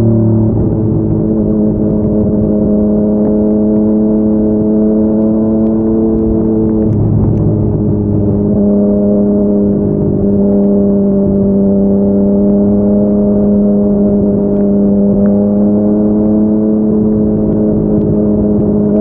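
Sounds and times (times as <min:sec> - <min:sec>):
motorcycle engine cruising drone: 0:00.0 - 0:19.0.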